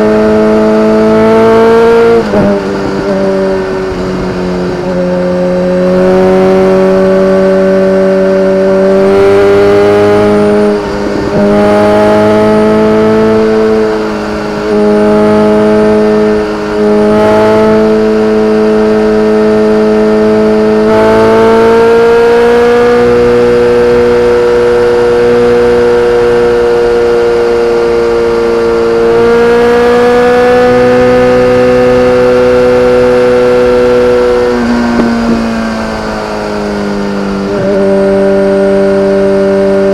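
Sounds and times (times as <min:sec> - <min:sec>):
motorcycle engine pitch climbing: 0:00.0 - 0:39.9.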